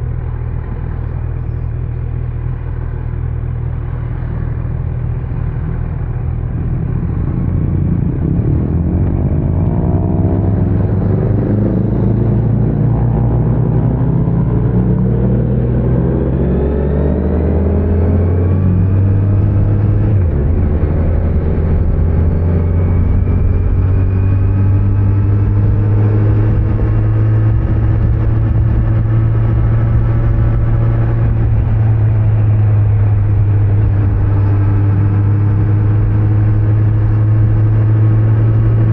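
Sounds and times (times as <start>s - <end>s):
motorcycle engine accelerating: 0.0s - 38.9s
tyre and road noise: 0.0s - 38.9s.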